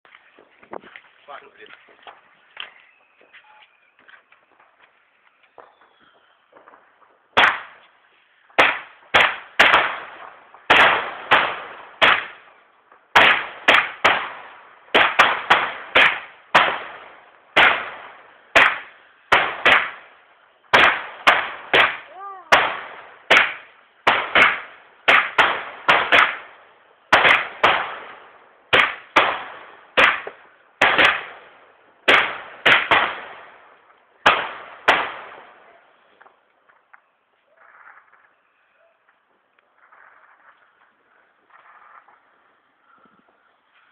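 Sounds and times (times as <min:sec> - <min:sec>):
firework bangs: 0:04.5 - 0:36.9, 0:39.1 - 0:43.9.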